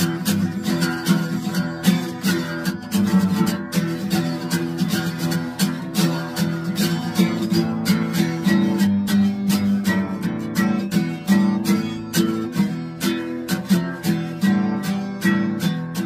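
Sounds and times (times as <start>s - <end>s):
acoustic guitar fast strumming: 0.0s - 16.0s.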